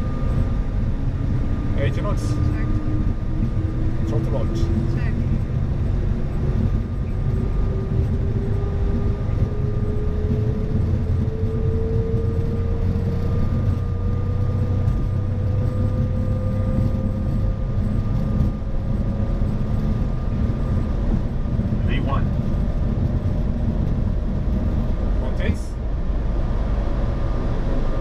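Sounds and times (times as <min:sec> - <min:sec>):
jet engines at takeoff thrust: 0:00.0 - 0:28.0
runway rumble: 0:00.0 - 0:28.0.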